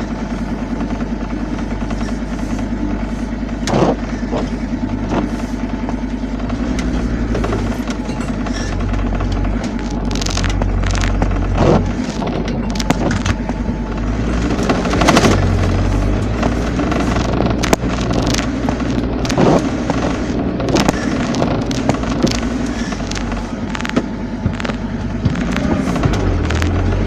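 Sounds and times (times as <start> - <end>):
vehicle engine running: 0.0 - 27.0
body and suspension bangs: 3.4 - 27.0.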